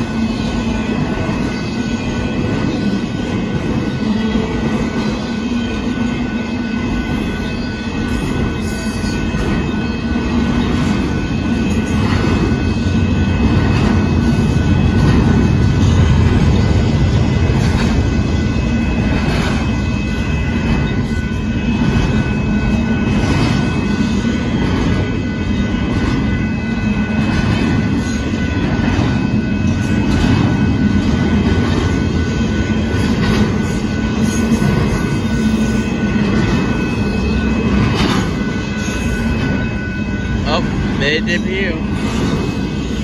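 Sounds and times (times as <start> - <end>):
steel wheels rumbling on rail: 0.0 - 43.0.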